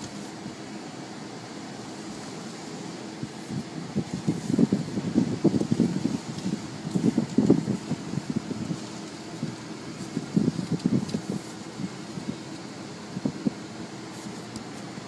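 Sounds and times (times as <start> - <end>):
car wash machinery hum: 0.0 - 15.0
rushing air: 0.0 - 15.0.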